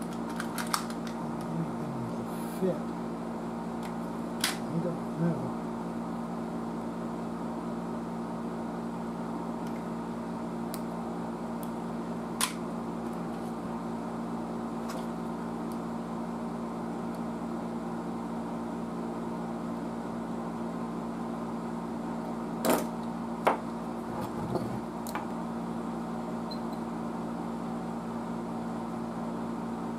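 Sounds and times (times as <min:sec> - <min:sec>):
steady electrical hum: 0:00.0 - 0:29.9.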